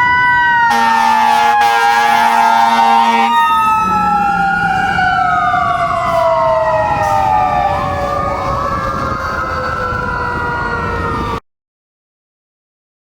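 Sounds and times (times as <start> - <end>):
fire engine sirens wailing: 0.0 - 11.4.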